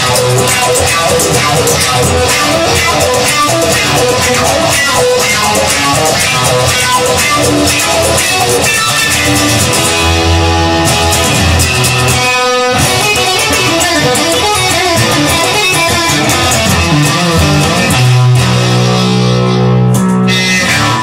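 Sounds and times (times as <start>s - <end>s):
instrumental guitar music: 0.0s - 21.0s.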